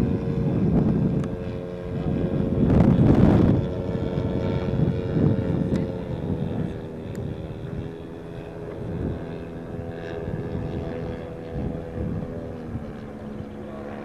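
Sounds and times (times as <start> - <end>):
model airplane engine droning: 0.0 - 14.0
wind rumbling on microphone: 0.0 - 14.0.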